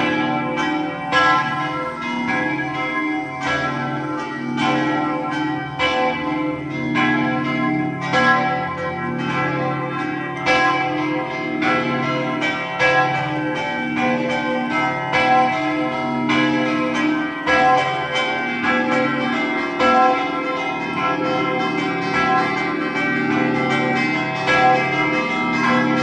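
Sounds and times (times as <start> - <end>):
church bells ringing: 0.0 - 26.0.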